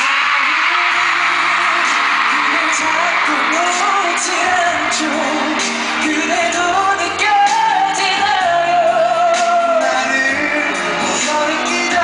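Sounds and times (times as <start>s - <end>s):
pop backing track: 0.0s - 12.0s.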